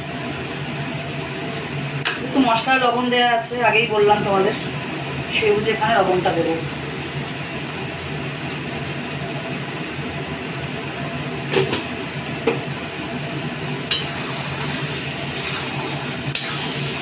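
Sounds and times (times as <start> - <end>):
food sizzling in pan: 0.0 - 17.0.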